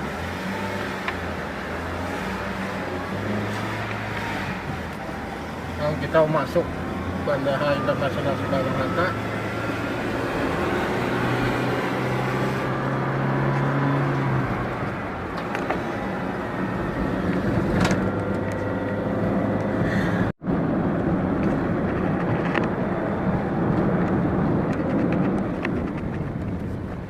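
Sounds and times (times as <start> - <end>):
car engine and tyre noise: 0.0 - 27.0.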